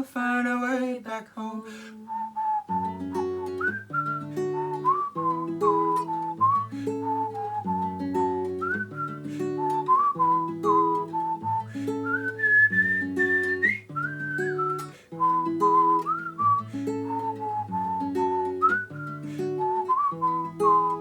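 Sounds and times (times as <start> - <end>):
picked acoustic guitar: 0.0 - 21.0
whistled melody: 2.1 - 21.0.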